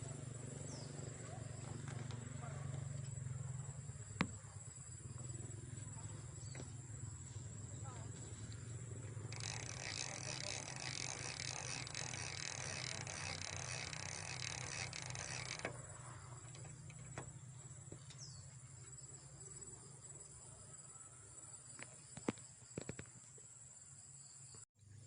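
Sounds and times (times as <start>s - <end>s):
insects chirring: 0.0s - 24.6s.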